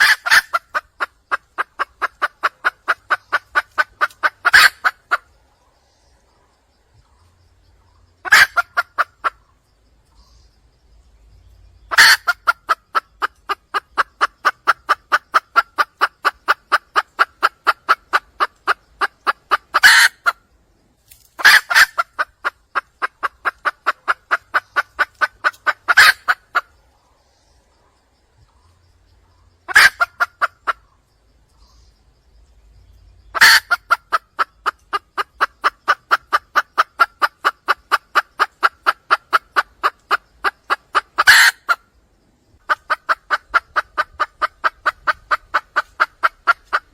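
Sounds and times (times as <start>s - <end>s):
junglefowl hen clucking: 0.0s - 20.6s, 21.2s - 46.9s.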